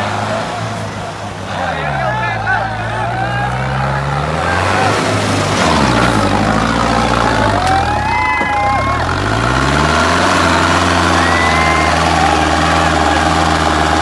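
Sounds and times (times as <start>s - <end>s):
tractor diesel engine working hard: 0.0s - 14.0s.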